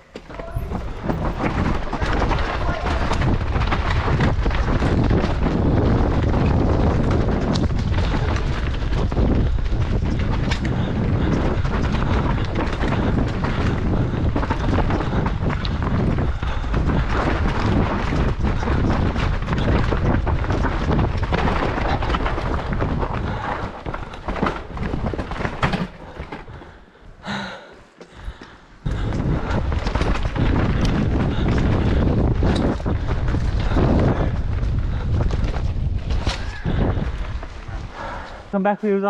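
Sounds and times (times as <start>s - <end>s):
wind buffeting microphone: 0.0s - 26.9s, 28.2s - 38.5s.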